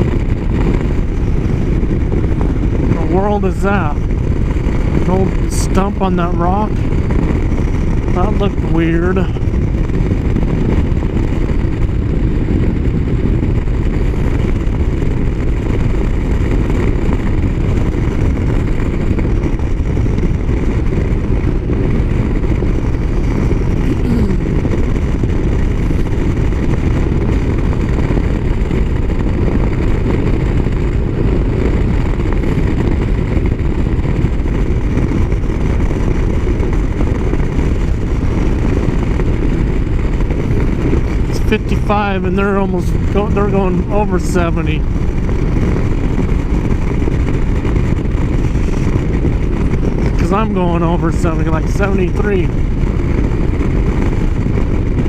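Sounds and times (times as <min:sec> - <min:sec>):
motorcycle engine cruising: 0:00.0 - 0:55.0
wind rush: 0:00.0 - 0:55.0.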